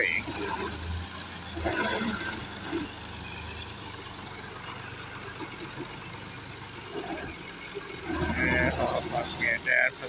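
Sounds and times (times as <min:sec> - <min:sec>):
tractor engine droning: 0:00.0 - 0:10.0.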